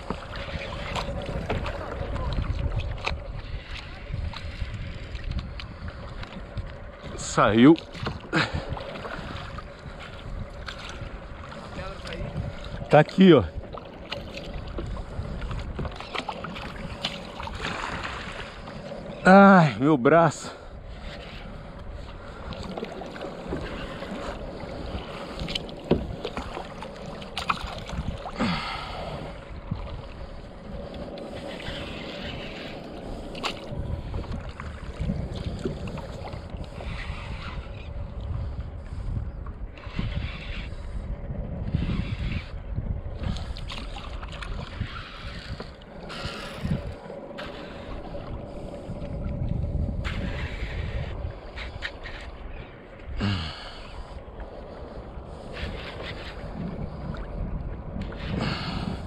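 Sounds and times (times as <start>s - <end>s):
wind noise: 0.0s - 19.5s, 20.4s - 59.0s
water noise: 0.0s - 59.0s.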